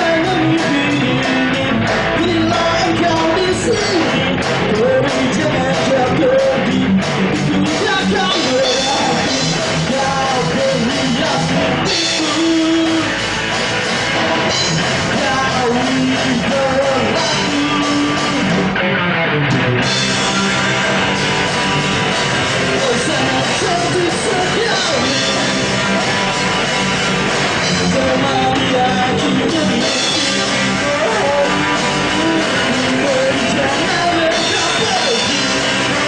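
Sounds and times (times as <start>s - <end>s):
person singing: 0.0s - 18.8s, 22.6s - 26.4s, 27.6s - 36.0s
live rock band playing: 0.0s - 36.0s.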